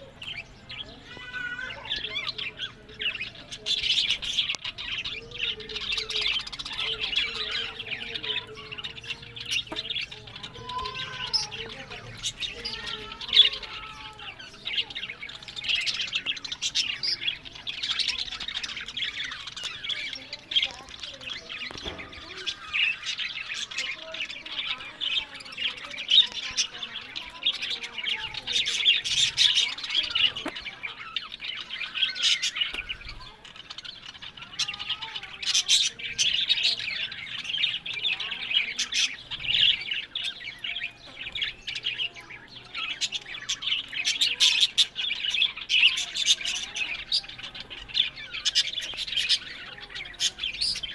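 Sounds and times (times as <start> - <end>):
budgerigars chattering: 0.0 - 50.9.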